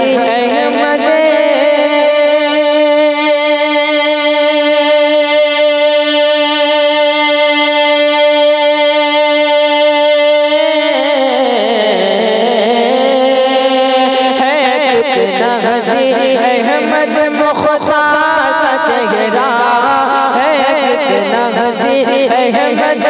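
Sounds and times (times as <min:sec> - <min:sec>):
man singing: 0:00.0 - 0:08.1, 0:09.0 - 0:23.0.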